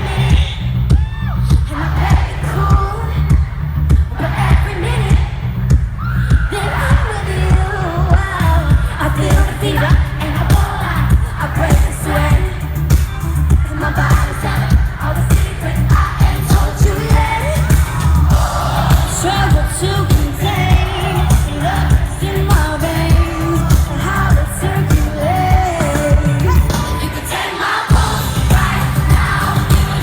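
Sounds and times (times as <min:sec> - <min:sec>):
backing band with heavy bass: 0:00.0 - 0:30.0
female vocal group singing: 0:00.0 - 0:30.0.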